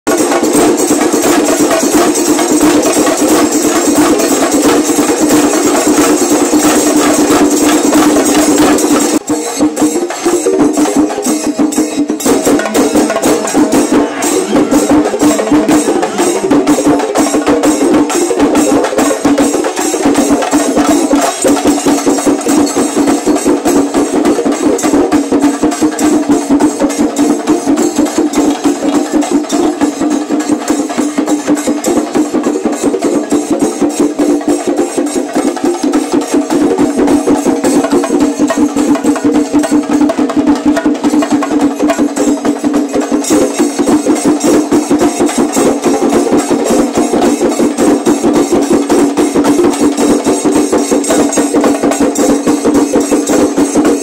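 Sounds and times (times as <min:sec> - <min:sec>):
drums beaten fast with sticks: 0:00.1 - 0:54.0
hand cymbals clashing: 0:00.1 - 0:54.0.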